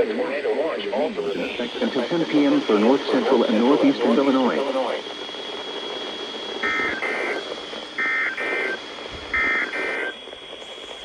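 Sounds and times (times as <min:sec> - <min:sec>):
radio hiss: 0:00.0 - 0:11.0
thin high whine: 0:00.0 - 0:11.0.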